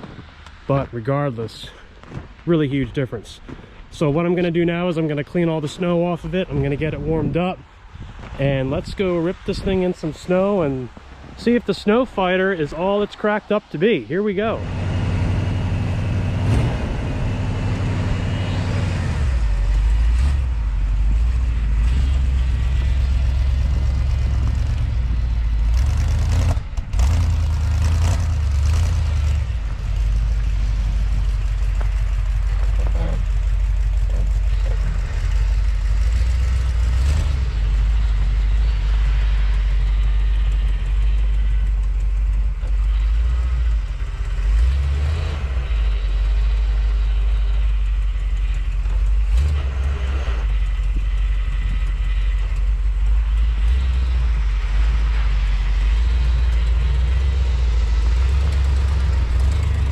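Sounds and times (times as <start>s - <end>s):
truck engine rumbling: 0.0s - 59.9s.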